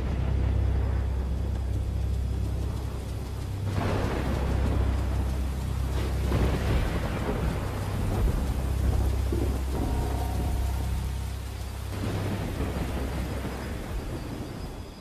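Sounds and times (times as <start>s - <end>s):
deep rumble of thunder: 0.0s - 15.0s
steady rain: 0.0s - 15.0s.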